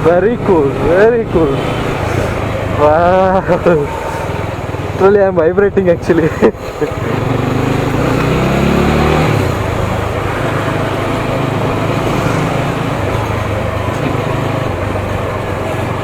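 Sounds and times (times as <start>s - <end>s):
motorcycle engine: 0.0s - 16.0s
wind and road noise: 0.0s - 16.0s.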